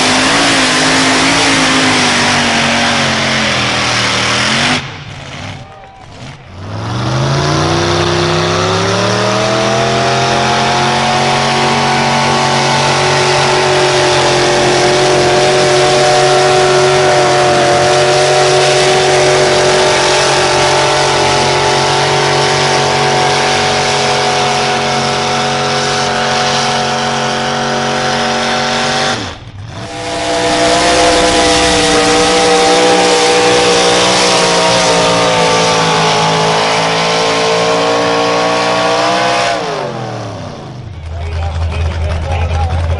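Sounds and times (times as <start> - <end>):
pulling truck engine revving: 0.0 - 42.9.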